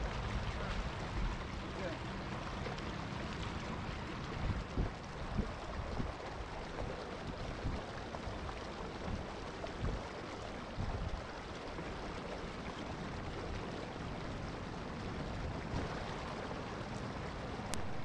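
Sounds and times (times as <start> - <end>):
water rushing along kayak hull: 0.0 - 18.0.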